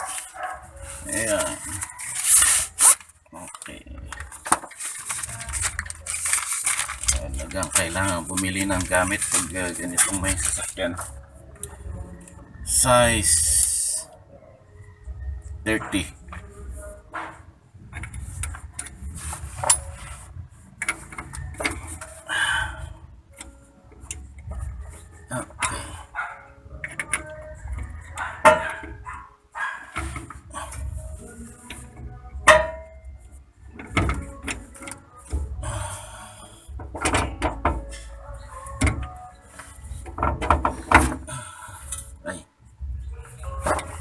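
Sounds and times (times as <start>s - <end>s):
metal tools clanking and scraping: 0.0s - 13.8s, 15.6s - 42.3s, 43.1s - 44.0s.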